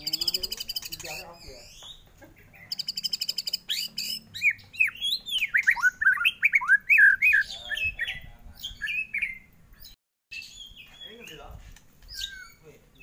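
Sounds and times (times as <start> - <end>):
bird singing: 0.0 - 13.0.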